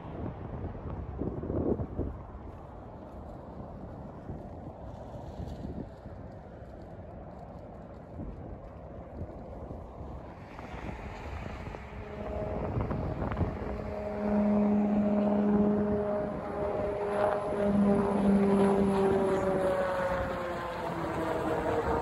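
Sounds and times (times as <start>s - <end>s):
propeller aircraft droning overhead: 0.0s - 22.0s.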